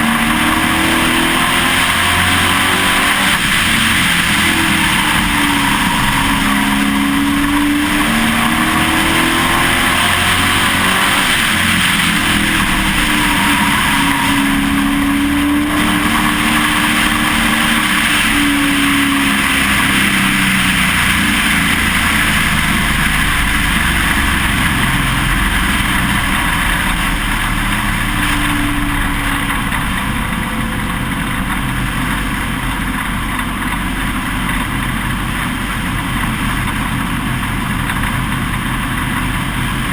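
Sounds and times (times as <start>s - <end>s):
race truck engine revving: 0.0s - 39.9s
wind and road noise: 0.0s - 39.9s.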